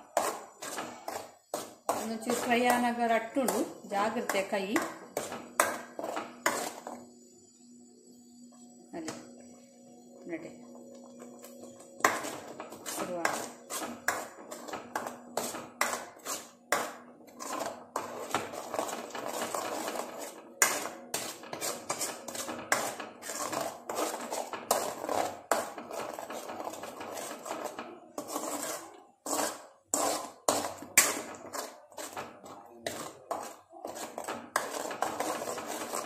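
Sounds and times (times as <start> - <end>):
paste frying in oil: 0.0 - 7.6, 10.9 - 36.0
metal spoon scraping pan: 0.0 - 8.1, 9.0 - 36.0.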